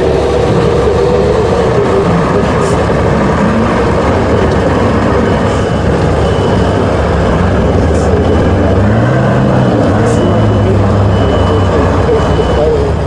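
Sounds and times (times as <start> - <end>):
diesel engine running hard: 0.0 - 13.0
tyres churning sand: 0.0 - 13.0.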